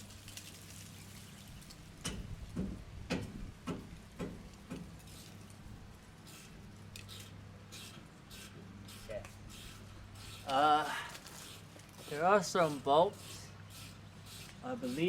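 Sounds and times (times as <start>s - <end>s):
steady low hum: 1.0s - 15.0s.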